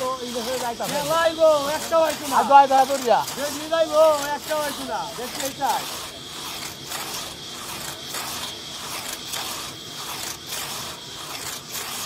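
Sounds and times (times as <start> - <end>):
saw rasping through log: 0.0 - 12.0.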